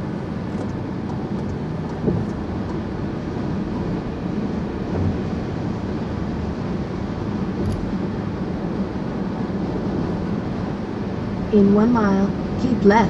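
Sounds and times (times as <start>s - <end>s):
car cruising road noise: 0.0s - 13.0s.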